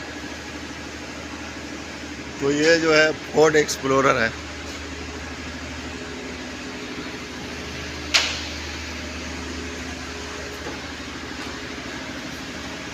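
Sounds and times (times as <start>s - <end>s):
steady mechanical hum: 0.0s - 12.9s.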